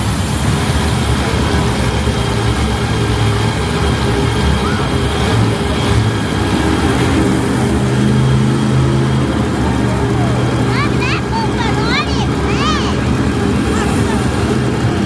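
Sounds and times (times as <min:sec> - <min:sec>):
monster truck engines running: 0:00.0 - 0:15.0.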